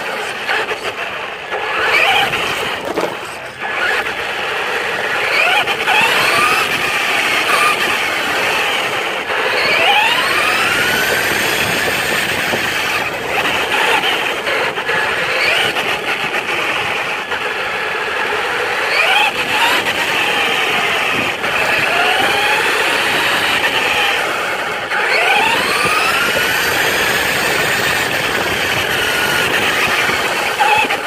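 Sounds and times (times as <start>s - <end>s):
electric motor whining: 0.1s - 31.0s.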